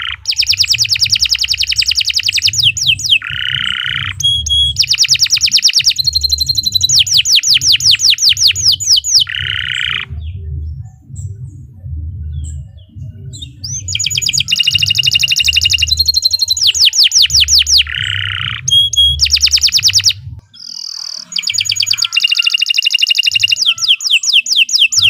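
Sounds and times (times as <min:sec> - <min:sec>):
low background rumble: 0:00.0 - 0:20.5
canary singing: 0:00.0 - 0:25.0.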